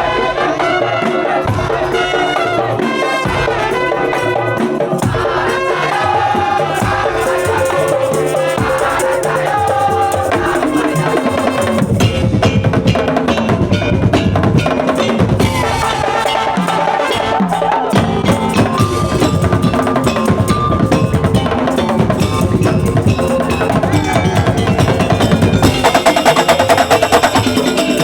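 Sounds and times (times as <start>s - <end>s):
drums and slit drums rhythm: 0.0s - 28.0s
ringing tuned metal percussion: 1.4s - 28.0s.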